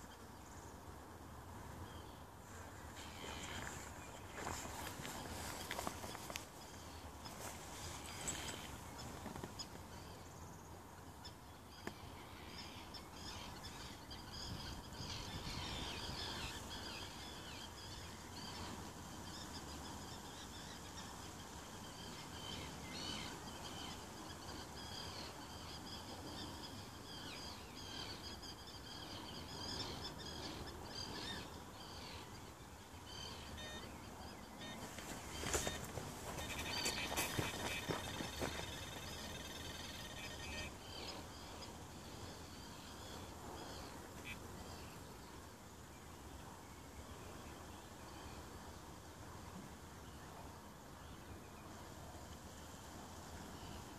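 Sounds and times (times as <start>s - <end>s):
outdoor background noise: 0.0s - 53.9s
songbirds chirping and singing: 1.8s - 48.6s.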